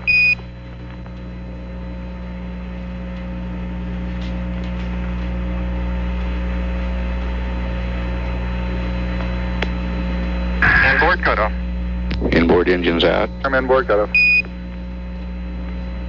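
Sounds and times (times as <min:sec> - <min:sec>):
radio hum and hiss: 0:00.0 - 0:16.0.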